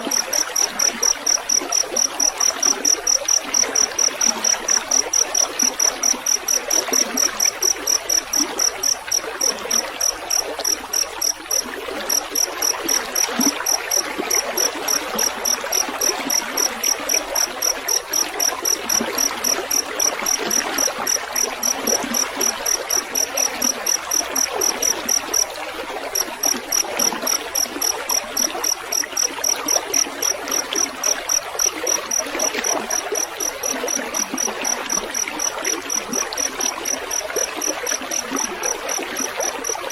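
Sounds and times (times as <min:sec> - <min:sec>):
cricket chirping: 0:00.0 - 0:39.9
trickle of running water: 0:00.0 - 0:39.9.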